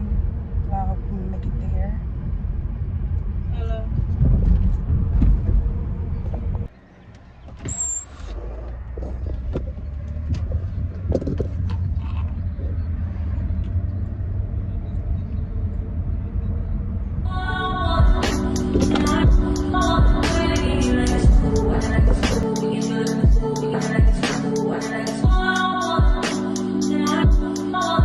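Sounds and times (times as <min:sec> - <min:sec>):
car driving rumble: 0:00.0 - 0:24.3.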